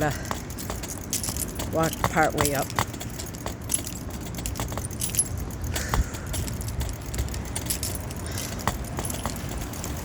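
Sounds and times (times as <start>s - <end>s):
bicycle metallic jangling: 0.0s - 10.0s
handling noise: 0.0s - 10.0s
wind rumble: 0.0s - 10.0s.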